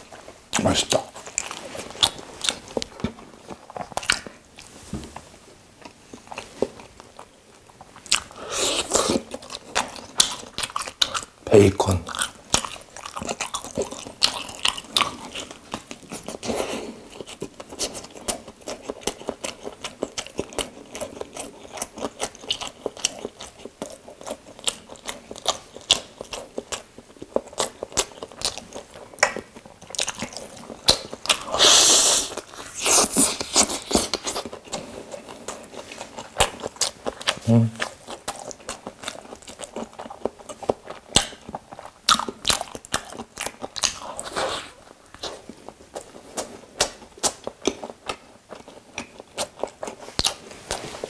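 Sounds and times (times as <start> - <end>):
moist chewing: 0.0 - 4.7, 5.8 - 51.0.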